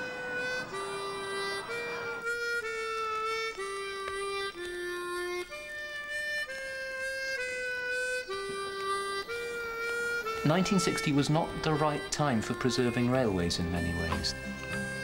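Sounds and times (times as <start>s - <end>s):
slow harmonica melody: 0.0s - 15.0s.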